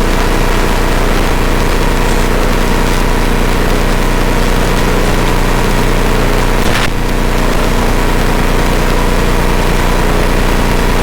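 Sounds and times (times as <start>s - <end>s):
aircraft engine drone in cockpit: 0.0s - 11.0s.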